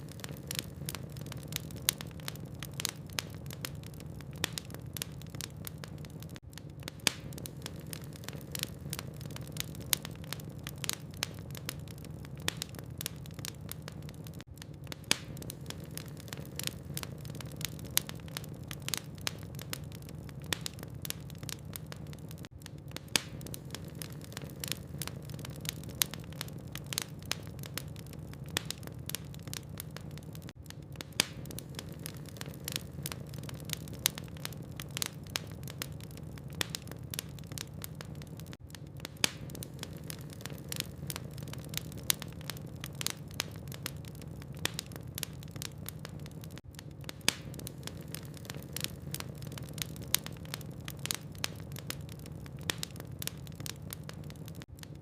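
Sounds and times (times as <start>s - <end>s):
logs crackling in fireplace: 0.0s - 55.0s
low fire rumble: 0.0s - 55.0s.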